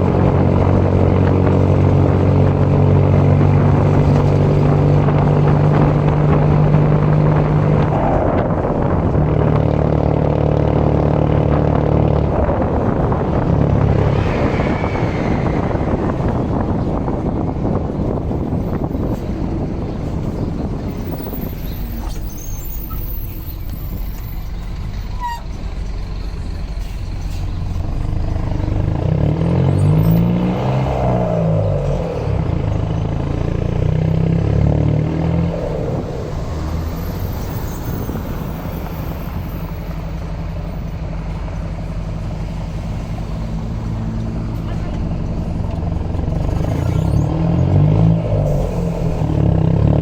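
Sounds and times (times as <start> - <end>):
diesel bus engine revving: 0.0 - 50.0.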